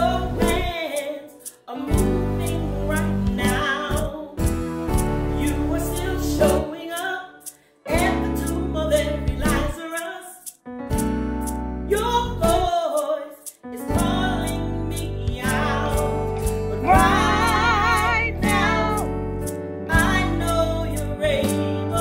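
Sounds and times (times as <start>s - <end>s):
woman singing gospel: 0.0s - 4.4s, 5.3s - 10.4s, 11.9s - 19.1s, 19.9s - 22.0s
piano accompaniment: 0.0s - 7.1s, 7.9s - 9.9s, 10.6s - 12.9s, 13.5s - 22.0s.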